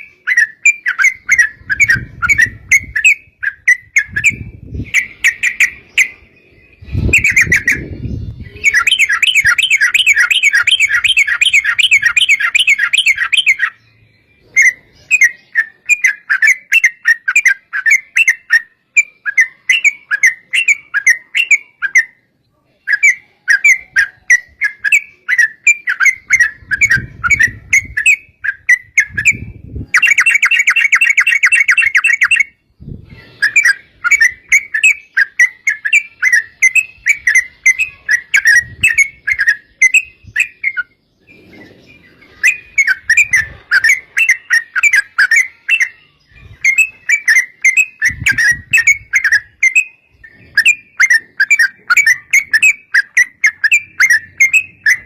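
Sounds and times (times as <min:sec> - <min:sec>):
birds chattering song: 0:00.0 - 0:55.0.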